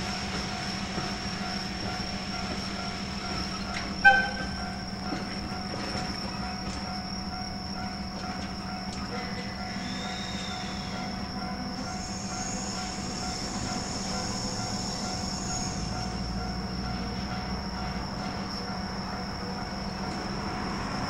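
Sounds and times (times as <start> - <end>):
train wheels squealing on rails: 0.0 - 21.0.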